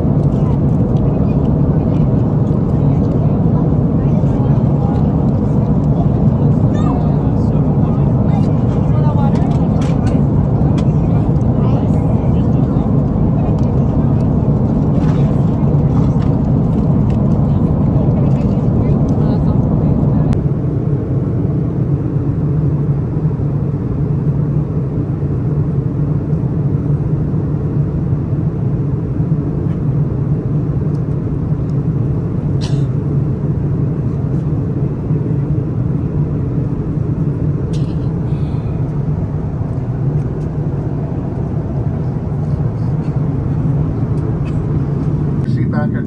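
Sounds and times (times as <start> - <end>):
airliner cabin rumble: 0.0 - 46.0.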